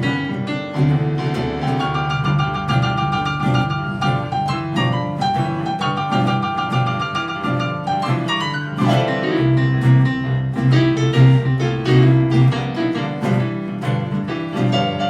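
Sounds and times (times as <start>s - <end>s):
blues piano playing: 0.0s - 15.0s.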